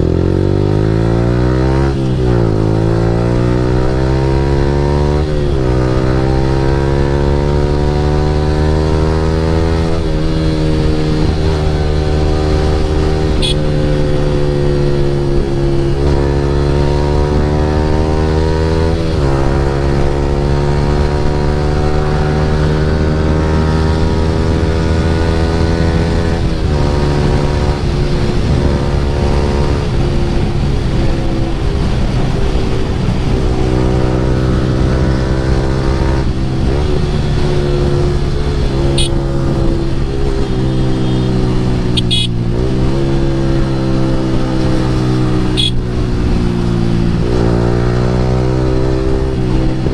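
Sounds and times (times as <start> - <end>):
motorcycle engine revving through gears: 0.0 - 49.9.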